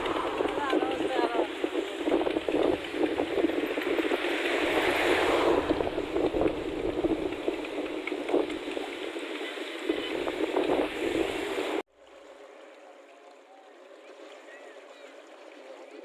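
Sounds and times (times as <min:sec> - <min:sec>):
water rushing and splashing: 0:00.0 - 0:16.0.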